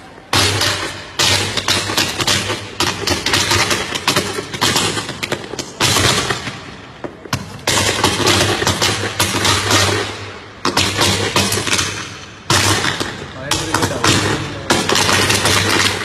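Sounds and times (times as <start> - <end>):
firecrackers bursting: 0.0 - 16.0.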